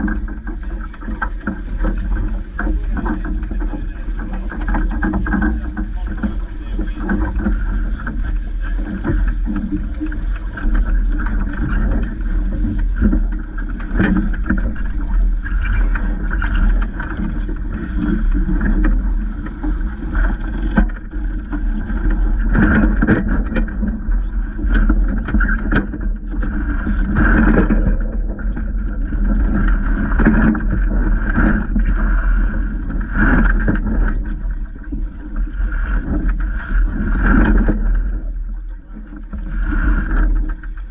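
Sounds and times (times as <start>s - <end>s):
steady low rumble: 0.0s - 40.9s
water splashing against boat hull: 0.0s - 40.9s.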